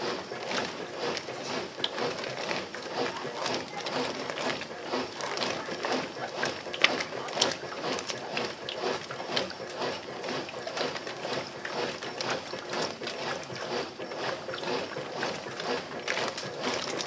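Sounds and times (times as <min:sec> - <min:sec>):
washing machine agitating: 0:00.0 - 0:17.0
water and suds sloshing: 0:00.0 - 0:17.0.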